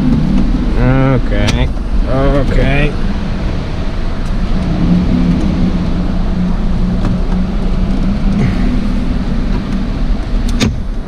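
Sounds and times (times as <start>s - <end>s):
car engine hum inside cabin: 0.0s - 11.0s.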